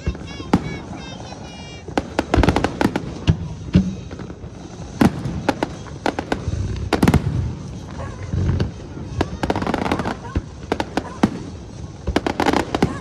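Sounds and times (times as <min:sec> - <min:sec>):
fireworks bangs and booms: 0:00.0 - 0:13.0.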